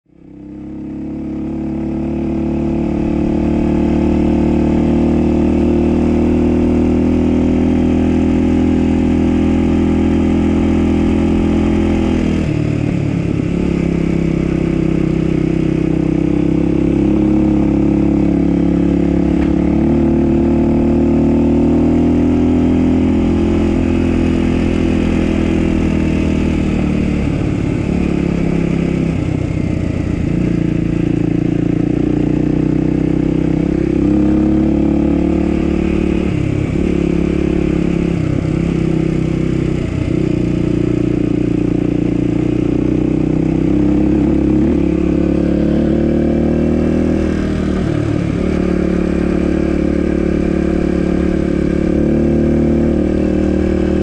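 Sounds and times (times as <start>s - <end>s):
dirt bike engine running: 0.2s - 54.0s.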